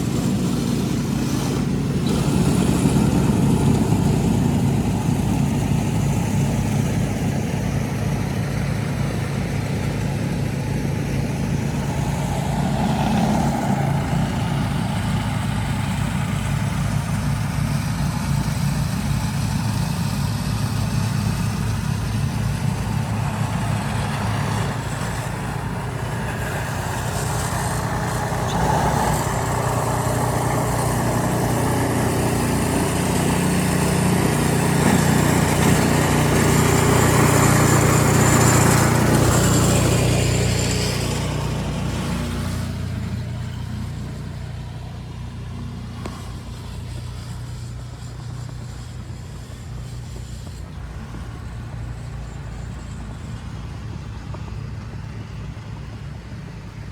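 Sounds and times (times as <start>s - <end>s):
city noise: 0.0s - 56.9s
vehicle engine idling: 0.0s - 56.9s.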